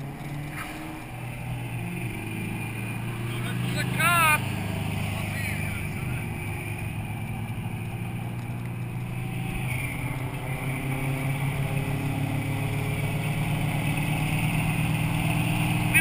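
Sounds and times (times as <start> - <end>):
car engine and exhaust cruising: 0.0 - 16.0.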